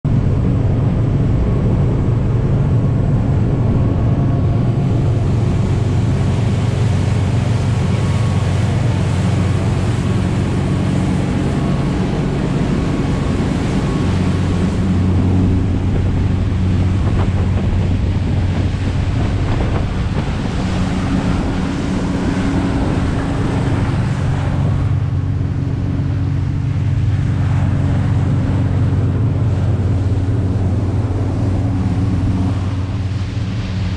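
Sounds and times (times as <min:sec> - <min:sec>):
water rushing along hull: 0:00.0 - 0:33.9
boat engine humming: 0:00.1 - 0:33.9
wind buffeting microphone: 0:00.1 - 0:33.9.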